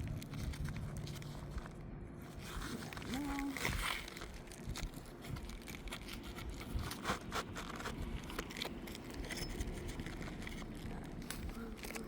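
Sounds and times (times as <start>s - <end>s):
roof shingles crackling and scraping: 0.0s - 12.0s.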